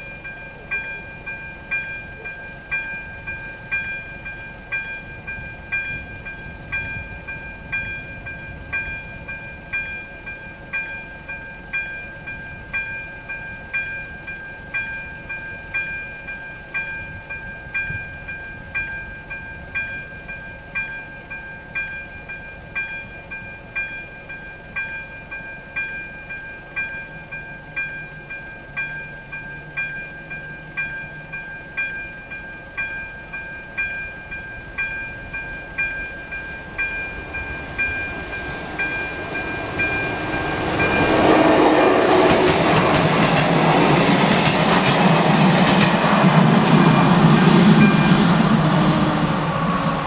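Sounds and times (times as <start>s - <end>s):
level crossing warning bell: 0.0s - 49.6s
steady warning tone: 0.0s - 50.0s
train rail rumble: 0.0s - 50.0s.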